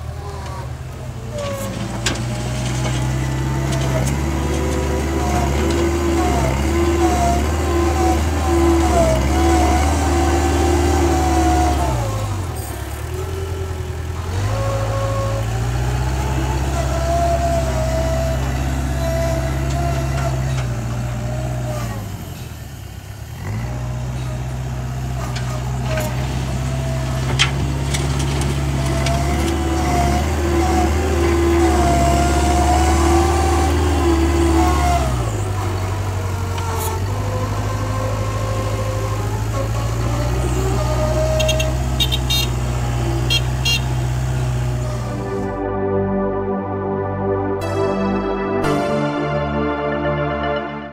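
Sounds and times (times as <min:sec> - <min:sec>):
loader engine running under load: 0:00.0 - 0:50.9.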